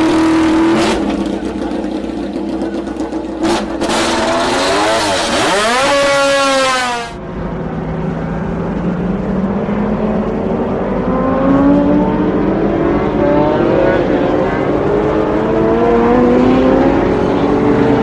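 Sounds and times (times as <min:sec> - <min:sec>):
racing motorcycle engine revving: 0:00.0 - 0:18.0.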